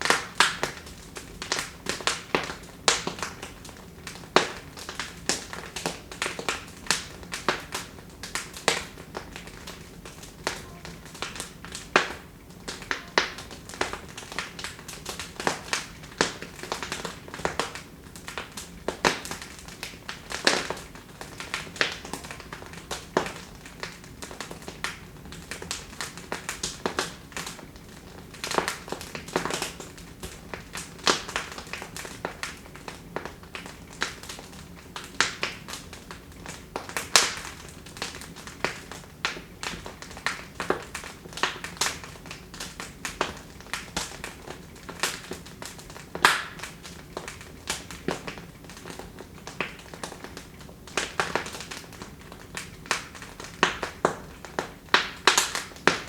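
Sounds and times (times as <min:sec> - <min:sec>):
fire crackling pops and snaps: 0:00.0 - 0:56.0
fire low hiss: 0:00.0 - 0:56.0.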